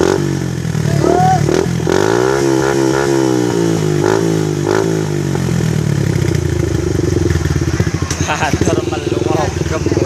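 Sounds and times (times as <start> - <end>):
motorcycle engines revving: 0.0 - 10.0.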